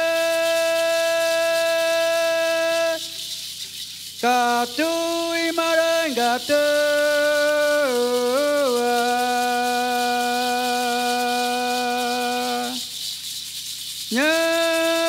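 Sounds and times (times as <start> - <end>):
person chanting: 0.0 - 3.4, 4.2 - 13.0, 14.1 - 15.0
rattle shaken softly: 0.0 - 15.0.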